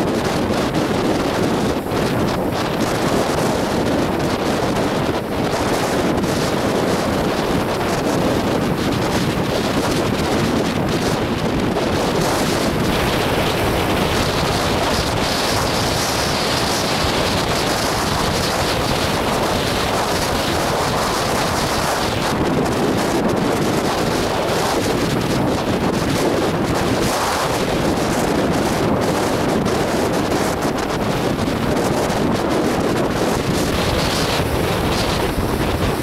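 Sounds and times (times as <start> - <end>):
breaking surf: 0.0 - 36.0
wind buffeting microphone: 0.0 - 36.0.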